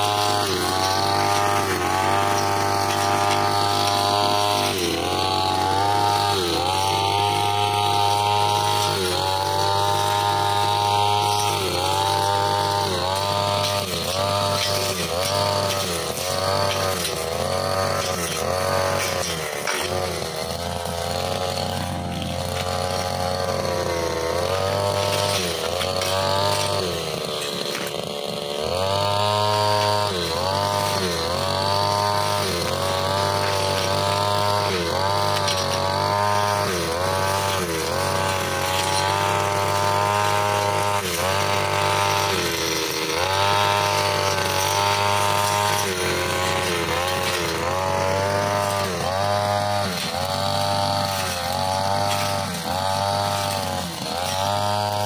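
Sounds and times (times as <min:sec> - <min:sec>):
brushcutter cutting brush: 0:00.0 - 0:55.0.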